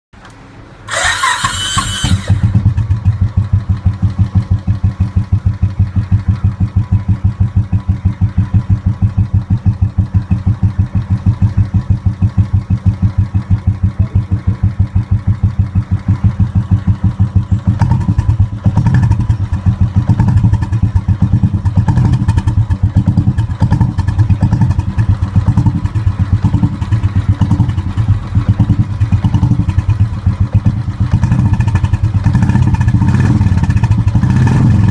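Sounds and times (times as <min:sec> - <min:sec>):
motorcycle engine idling: 0:00.2 - 0:34.9
motorcycle starter whine: 0:00.2 - 0:34.9.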